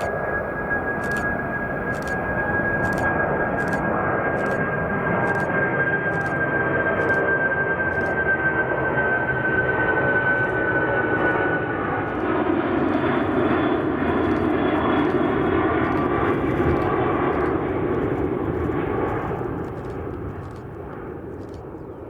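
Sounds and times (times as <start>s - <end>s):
high engine whine: 0.0s - 22.0s
jet engines running: 0.0s - 22.0s.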